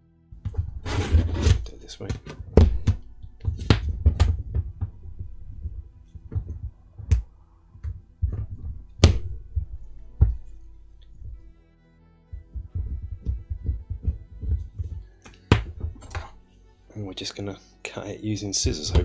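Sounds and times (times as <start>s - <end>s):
ruler and tape knocking on mat: 0.4s - 11.5s, 12.4s - 16.4s, 18.7s - 19.0s.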